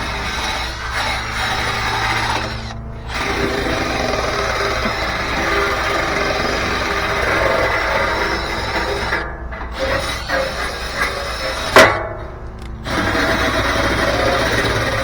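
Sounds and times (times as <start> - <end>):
drill brush scraping: 0.0 - 15.0.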